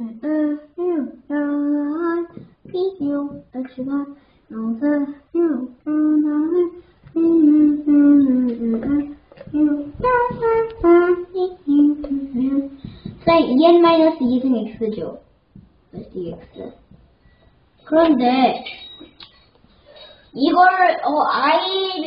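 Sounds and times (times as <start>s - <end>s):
child singing: 0.0s - 15.3s, 16.0s - 17.0s, 20.4s - 22.0s.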